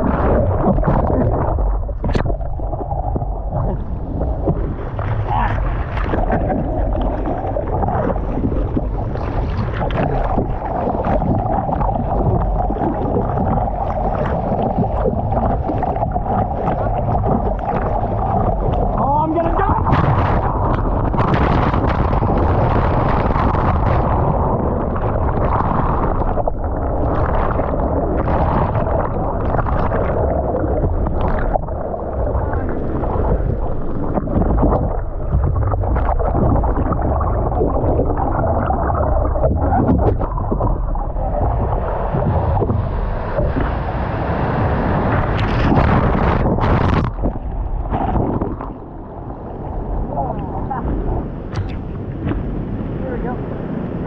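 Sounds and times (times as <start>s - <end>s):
water sloshing and splashing: 0.0s - 54.0s
wind rumbling on microphone: 0.0s - 54.0s.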